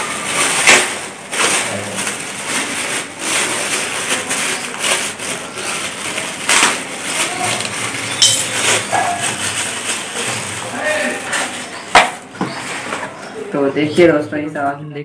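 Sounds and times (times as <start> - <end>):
plastic wrapping crinkling: 0.0 - 13.2.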